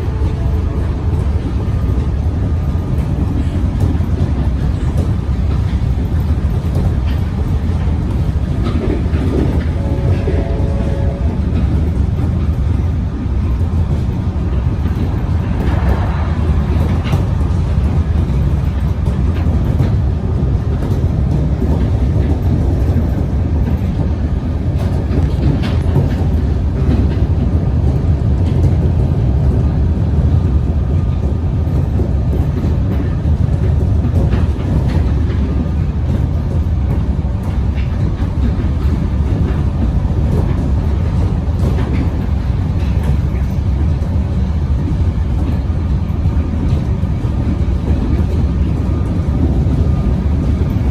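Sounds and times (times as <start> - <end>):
electric train rumbling: 0.0 - 50.9
faint rail clicks: 0.0 - 50.9.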